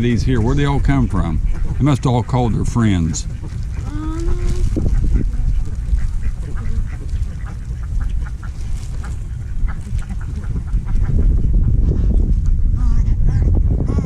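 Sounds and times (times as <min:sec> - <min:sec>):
ducks quacking: 0:00.0 - 0:14.0
steady low rumble: 0:00.0 - 0:14.0.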